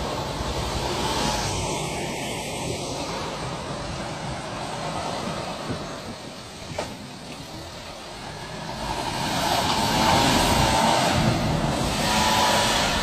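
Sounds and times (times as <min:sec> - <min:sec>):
car engine working hard: 0:00.0 - 0:13.0
wheels churning through slush: 0:00.0 - 0:13.0.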